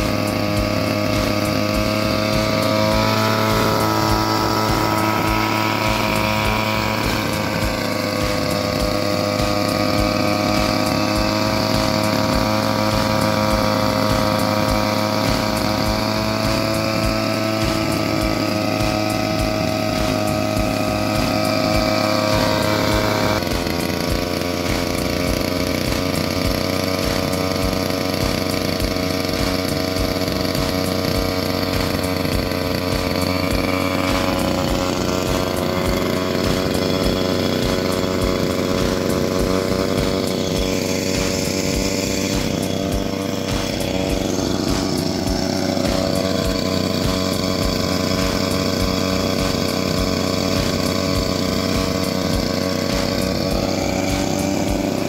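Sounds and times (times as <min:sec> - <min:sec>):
two-stroke engine running fast: 0:00.0 - 0:55.0.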